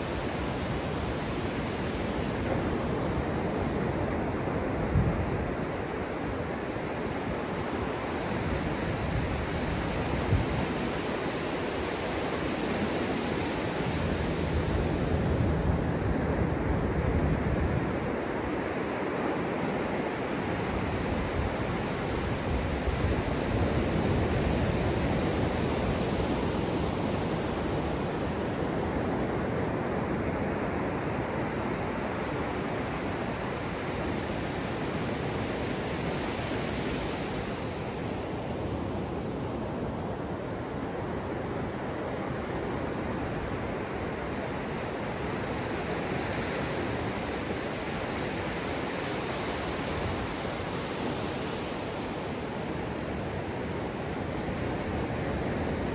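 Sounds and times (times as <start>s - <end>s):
waves breaking on sand: 0.0s - 55.9s.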